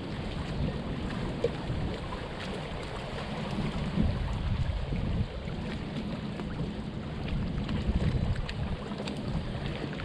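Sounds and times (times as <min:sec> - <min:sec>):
small waves lapping: 0:00.0 - 0:10.0
wind buffeting microphone: 0:00.0 - 0:10.0.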